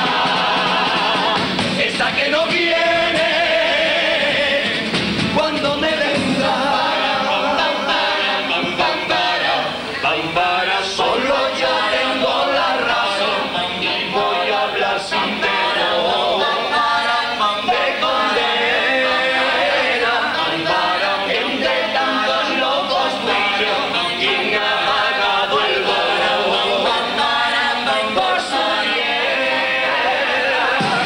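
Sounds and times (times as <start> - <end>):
male choir singing in harmony: 0.0 - 31.0.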